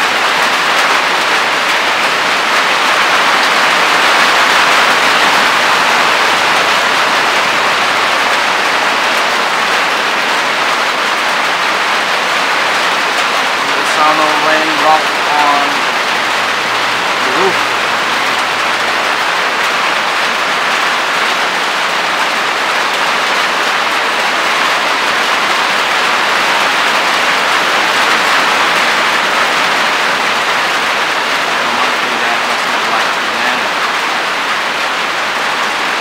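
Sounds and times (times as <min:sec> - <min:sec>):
rain on a roof: 0:00.0 - 0:36.0.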